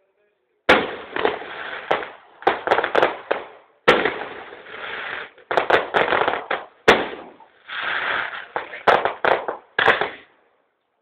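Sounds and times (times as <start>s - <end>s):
fireworks bursting: 0.7s - 10.4s.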